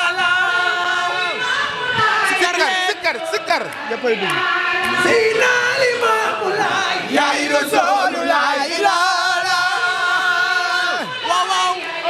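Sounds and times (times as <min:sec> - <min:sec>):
lead voice singing into microphone: 0:00.0 - 0:12.0
women chanting together: 0:00.0 - 0:12.0.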